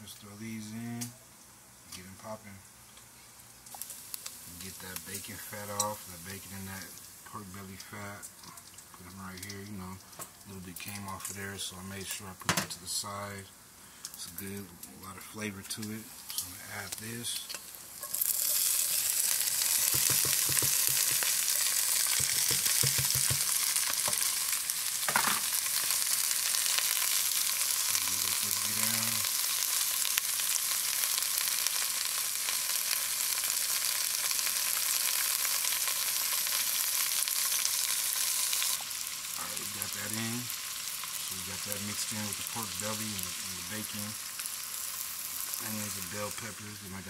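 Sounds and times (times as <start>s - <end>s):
vegetables sizzling in fat: 2.7s - 13.4s, 14.2s - 47.0s.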